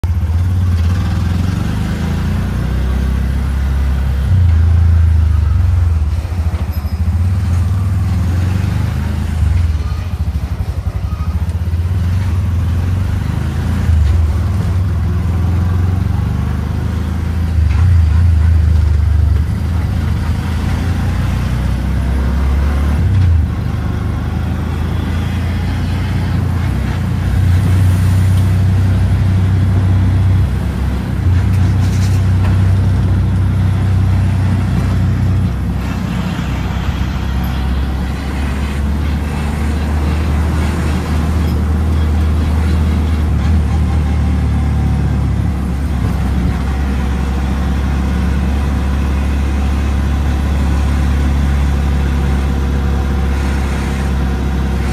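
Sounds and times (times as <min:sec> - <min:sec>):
auto-rickshaw engine droning: 0:00.0 - 0:54.9.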